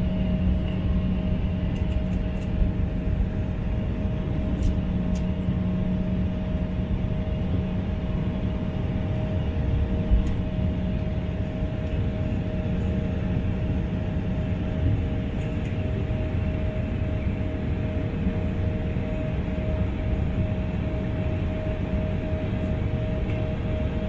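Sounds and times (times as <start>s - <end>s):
jet engine rumble: 0.0s - 24.0s
steady hum tones: 0.0s - 24.0s.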